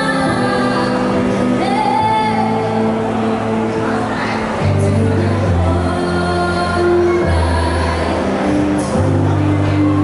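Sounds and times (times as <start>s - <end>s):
woman singing live: 0.0s - 3.1s, 4.6s - 10.0s
sustained instrumental chords: 0.0s - 10.0s.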